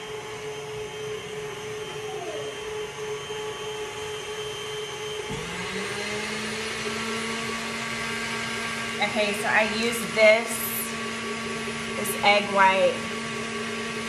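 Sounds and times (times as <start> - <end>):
lower motor tone: 0.0 - 13.1
stand mixer motor whining: 0.0 - 14.0.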